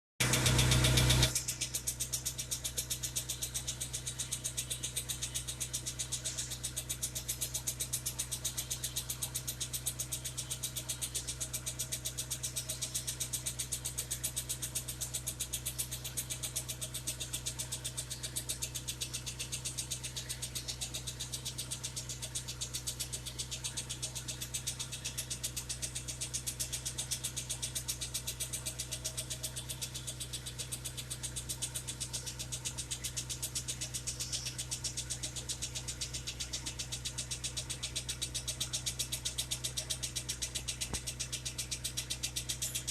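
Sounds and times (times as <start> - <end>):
engine ticking knock: 0.2 - 42.9.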